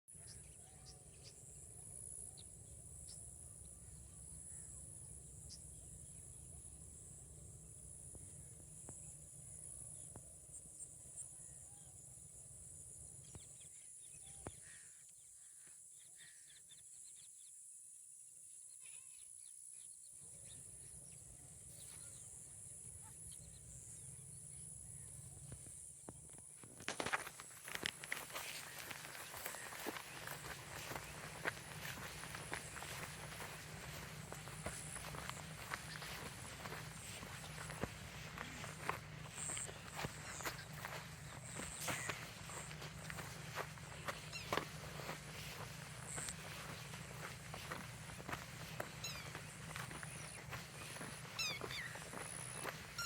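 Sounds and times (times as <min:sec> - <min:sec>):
faint chirps and ticks: 0:00.2 - 0:17.8, 0:18.6 - 0:53.0.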